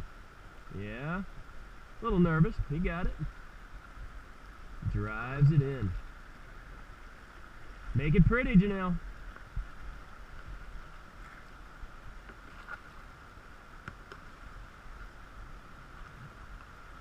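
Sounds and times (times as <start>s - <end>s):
river rushing over riffles: 0.0s - 17.0s.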